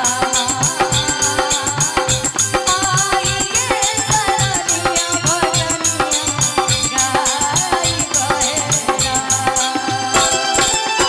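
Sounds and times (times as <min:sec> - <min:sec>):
hand drums: 0:00.0 - 0:11.0
high ticking percussion: 0:00.0 - 0:11.0
woman singing into microphone: 0:00.0 - 0:11.0.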